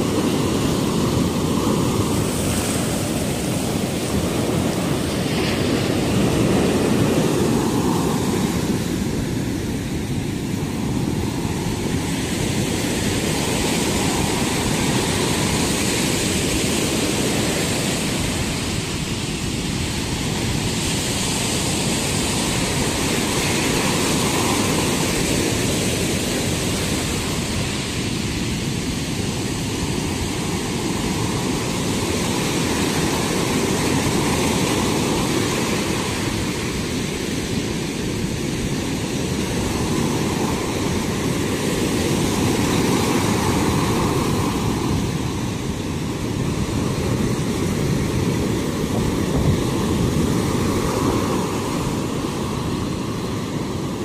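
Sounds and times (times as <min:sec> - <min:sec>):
waves crashing on sandy beach: 0:00.0 - 0:54.0.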